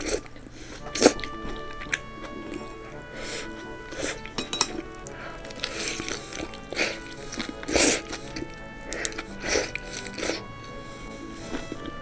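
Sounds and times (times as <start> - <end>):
background music with sustained notes: 0.0 - 12.0
person chewing noisily: 0.0 - 12.0.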